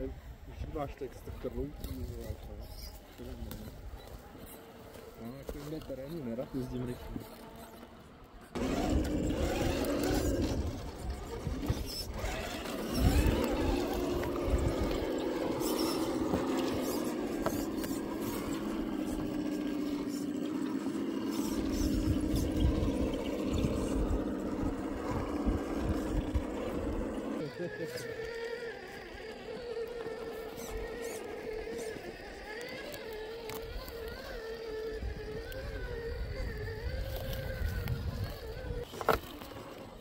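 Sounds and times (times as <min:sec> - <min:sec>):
electric motor and drivetrain whining: 0:00.0 - 0:40.0.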